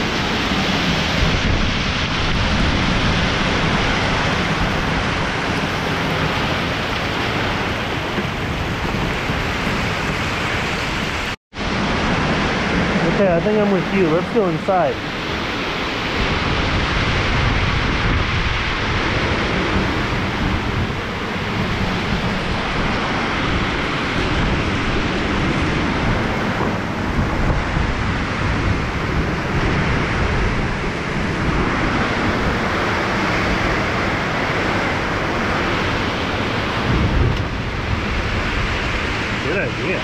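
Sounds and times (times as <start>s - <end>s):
heavy rain pouring: 0.0s - 40.0s
wind buffeting microphone: 0.0s - 40.0s.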